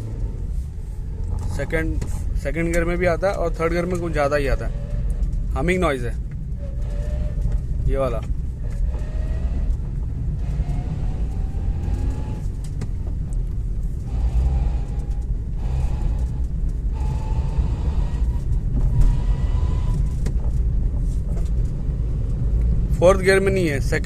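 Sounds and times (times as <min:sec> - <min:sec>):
car engine rumble: 0:00.0 - 0:24.0.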